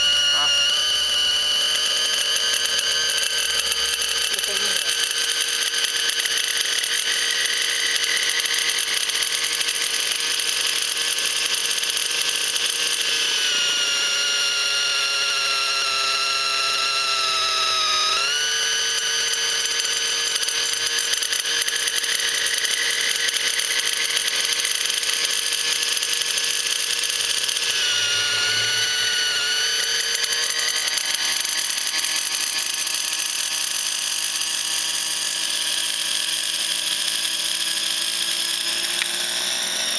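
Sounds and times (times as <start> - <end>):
model helicopter engine whining: 0.0 - 39.9.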